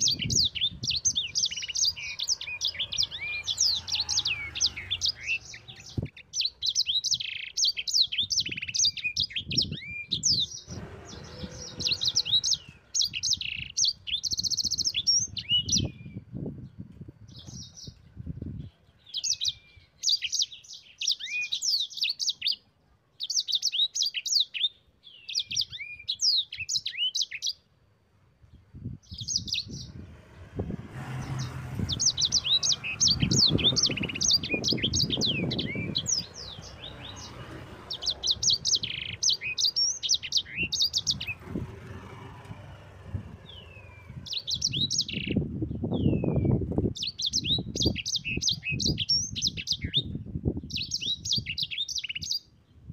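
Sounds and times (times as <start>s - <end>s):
songbird chirping and trilling: 0.0s - 27.8s, 28.4s - 52.9s.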